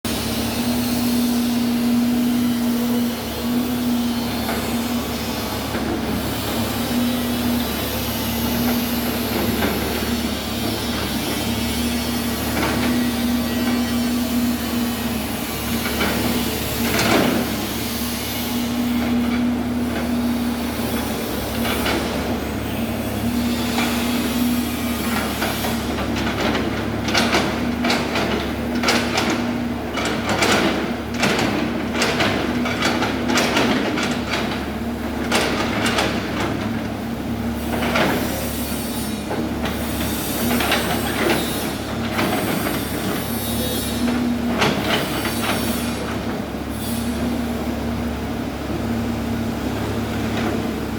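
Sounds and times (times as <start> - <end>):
excavator machine hum: 0.1 - 50.9.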